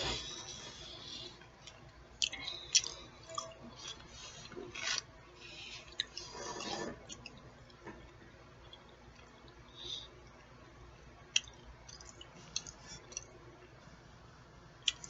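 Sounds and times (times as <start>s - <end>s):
chewing and wet mouth sounds: 0.0s - 13.4s.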